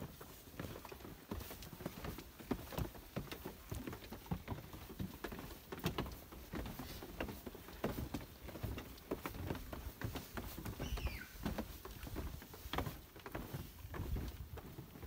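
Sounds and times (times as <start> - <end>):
footsteps on stone: 0.0 - 15.0.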